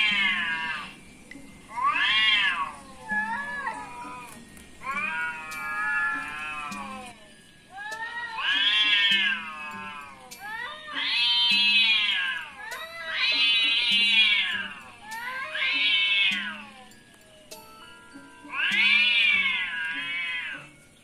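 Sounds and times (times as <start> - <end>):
cat meowing: 1.7 - 16.9, 18.5 - 20.7.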